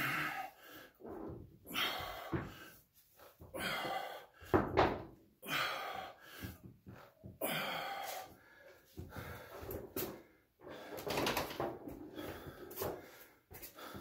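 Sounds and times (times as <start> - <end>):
man breathing heavily: 0.0 - 14.0.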